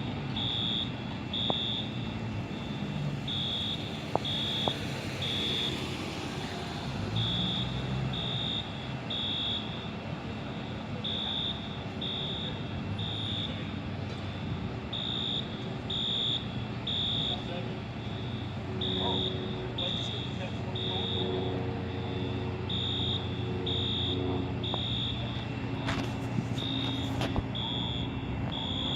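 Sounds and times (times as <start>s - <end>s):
fire alarm beeping: 0.0s - 6.0s, 7.1s - 28.9s.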